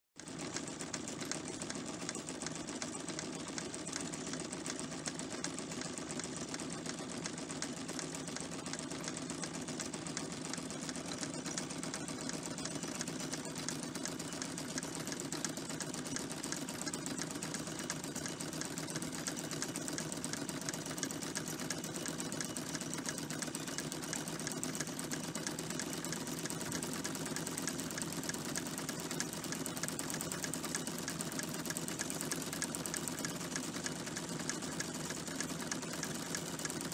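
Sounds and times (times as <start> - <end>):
model machines clattering and ticking: 0.2 - 36.9.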